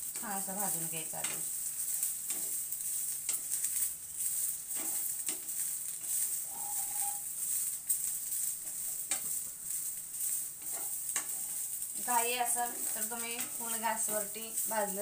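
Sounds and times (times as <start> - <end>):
beans sizzling in oil: 0.0 - 15.0
spatula scraping and rattling: 0.0 - 15.0.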